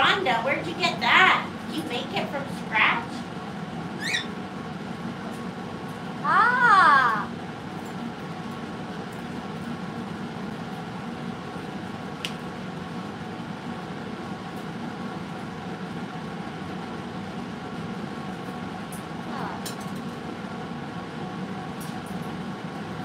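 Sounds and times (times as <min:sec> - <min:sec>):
fan humming: 0:00.0 - 0:23.0.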